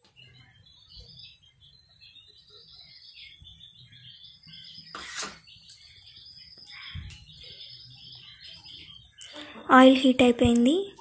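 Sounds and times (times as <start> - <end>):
faint high chirping: 0.0 - 11.0.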